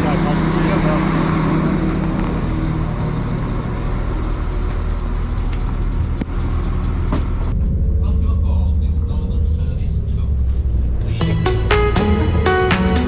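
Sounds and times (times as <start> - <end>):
train engine rumble: 0.0 - 13.0.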